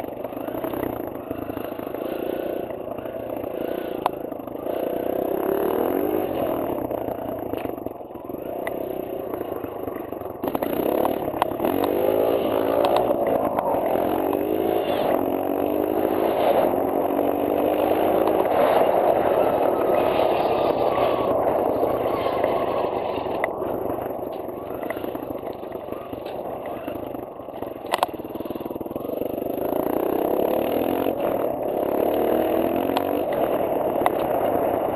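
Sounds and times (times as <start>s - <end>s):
dirt bike engine running: 0.0s - 34.9s.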